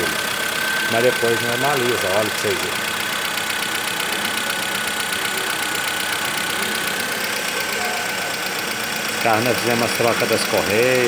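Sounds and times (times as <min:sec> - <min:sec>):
car engine idling: 0:00.0 - 0:11.0
valve lifters ticking: 0:00.0 - 0:11.0.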